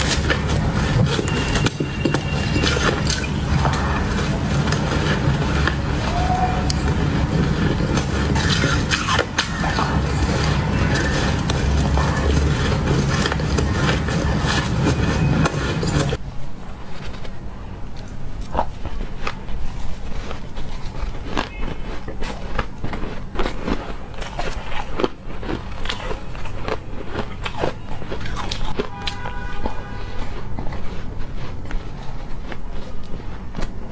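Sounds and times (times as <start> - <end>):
ice being chewed: 0.0 - 16.2, 17.0 - 33.9.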